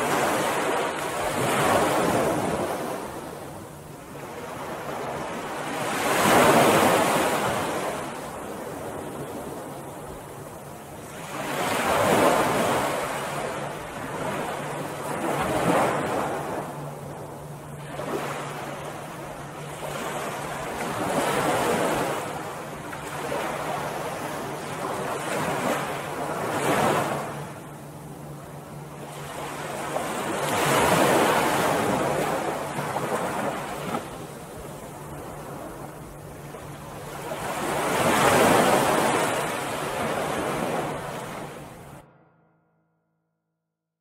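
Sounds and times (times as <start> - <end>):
ocean surf washing onto beach: 0.0 - 27.7, 29.1 - 42.0.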